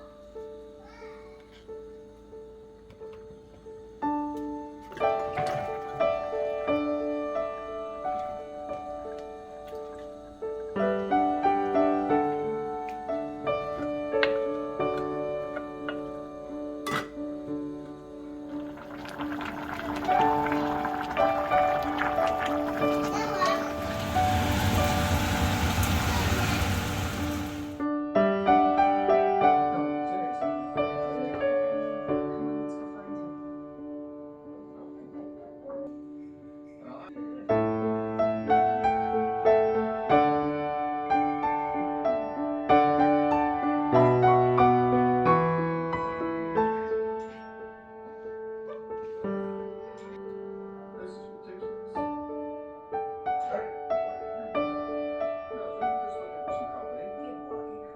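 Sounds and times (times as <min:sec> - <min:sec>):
slow gentle piano music: 0:00.0 - 0:57.9.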